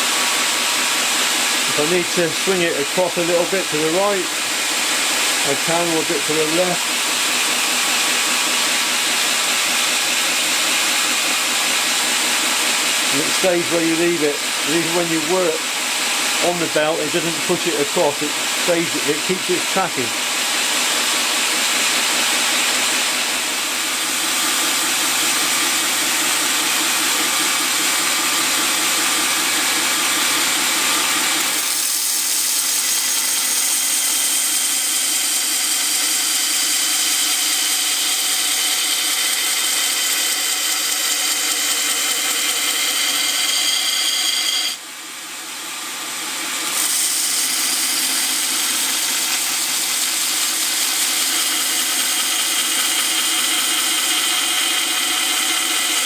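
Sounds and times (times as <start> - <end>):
belt grinder running: 0.0 - 44.8, 45.7 - 56.0.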